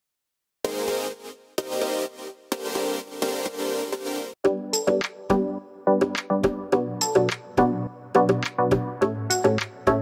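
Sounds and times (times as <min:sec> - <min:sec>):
electronic music: 0:00.6 - 0:10.0.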